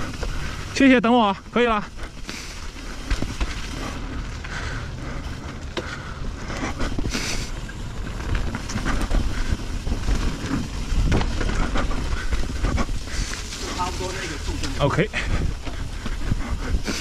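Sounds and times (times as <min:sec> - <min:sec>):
bike clicks and rattles: 0:00.0 - 0:00.8, 0:01.5 - 0:17.0
tyres rumbling on dirt: 0:00.0 - 0:17.0
wind buffeting microphone: 0:01.9 - 0:17.0.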